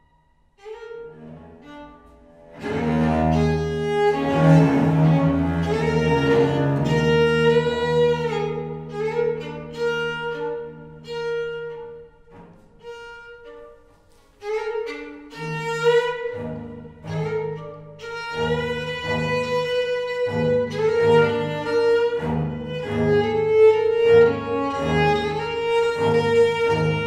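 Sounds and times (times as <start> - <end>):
viola da gamba low bowed notes: 0.0 - 27.0
violin: 0.0 - 27.0.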